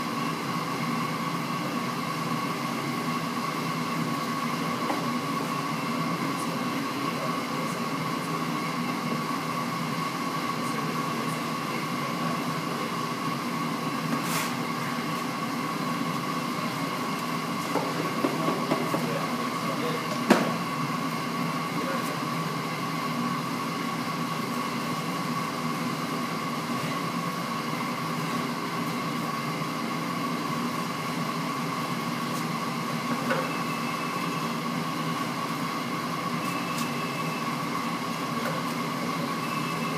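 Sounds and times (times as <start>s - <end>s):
machinery hum with high whine: 0.0s - 39.9s.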